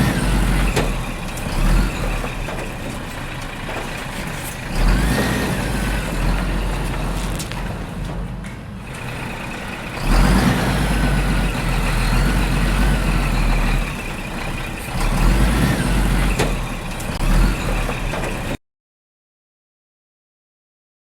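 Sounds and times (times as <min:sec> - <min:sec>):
road noise: 0:00.0 - 0:18.6
truck engine rumbling: 0:00.0 - 0:18.6.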